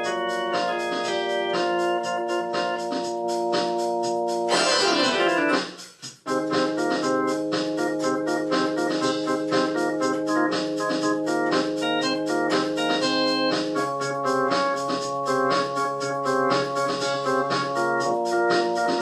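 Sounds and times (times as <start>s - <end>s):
electronic organ music: 0.0s - 19.0s
pulsing beat: 0.0s - 19.0s.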